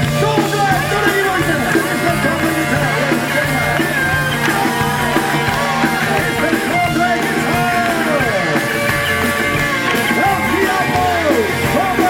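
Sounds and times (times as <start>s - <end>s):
electric guitar solo: 0.0s - 12.0s
live rock band playing: 0.0s - 12.0s.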